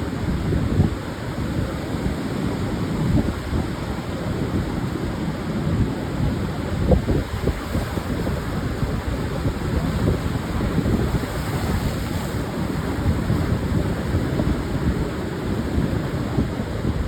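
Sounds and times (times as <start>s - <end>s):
surf washing onto sandy beach: 0.0s - 17.0s
wind buffeting microphone: 0.0s - 17.0s.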